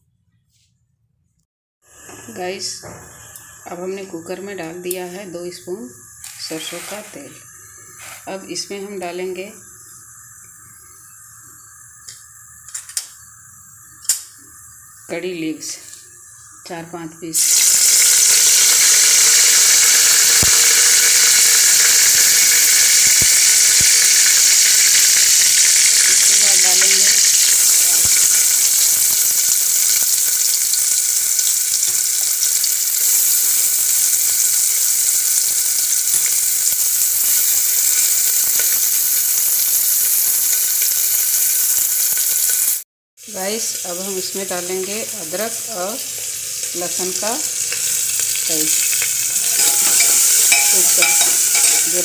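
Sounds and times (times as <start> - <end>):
oil sizzling in a pot: 1.8 - 52.0.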